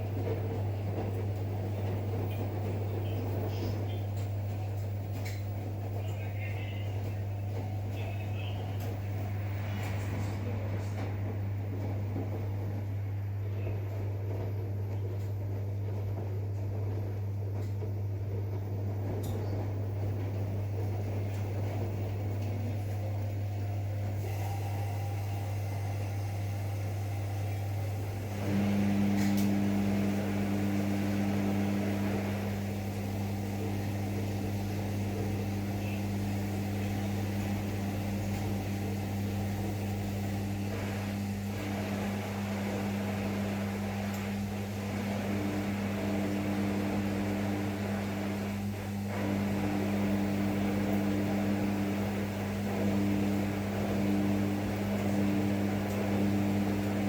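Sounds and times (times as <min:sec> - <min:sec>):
motor or pump hum: 0:00.0 - 0:57.0
washing machine hum: 0:00.0 - 0:57.0.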